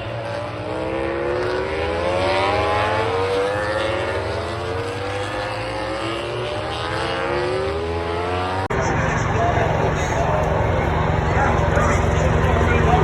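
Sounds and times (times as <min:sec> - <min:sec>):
motorcycle engines accelerating: 0:00.0 - 0:13.0.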